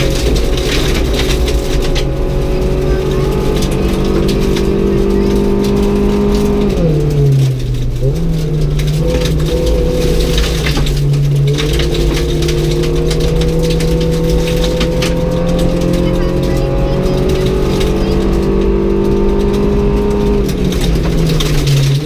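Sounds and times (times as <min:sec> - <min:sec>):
car engine accelerating: 0:00.0 - 0:22.0
gravel crunching and pinging: 0:00.0 - 0:22.0.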